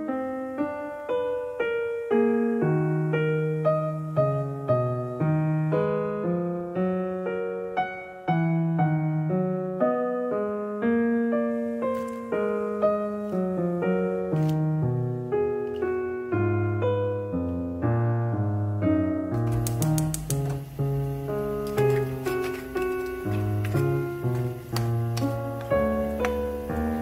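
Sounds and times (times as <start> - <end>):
gentle piano music: 0.0 - 27.0.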